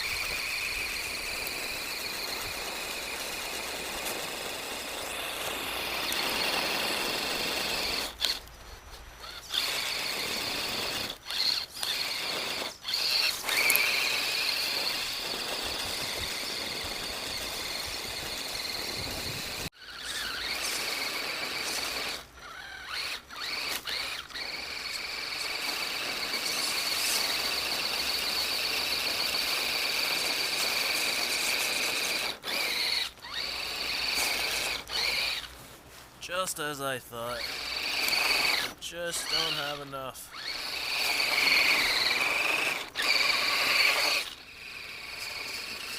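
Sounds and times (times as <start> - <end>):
electric motor whining: 0.0 - 35.7, 37.3 - 45.9.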